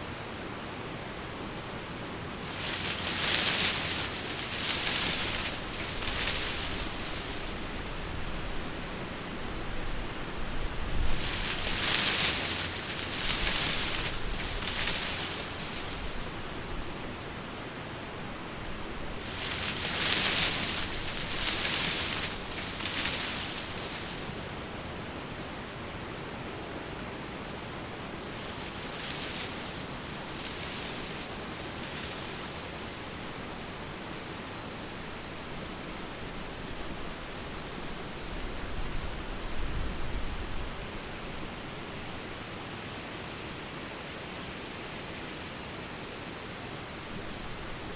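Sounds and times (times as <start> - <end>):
constant hiss: 0.0 - 47.9
insect chorus: 0.0 - 47.9.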